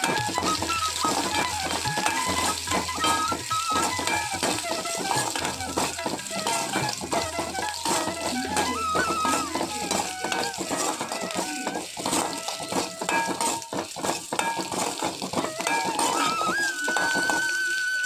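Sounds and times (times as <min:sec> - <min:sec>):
spatula clinking in a pan: 0:00.0 - 0:17.5
instrumental music: 0:00.0 - 0:18.0.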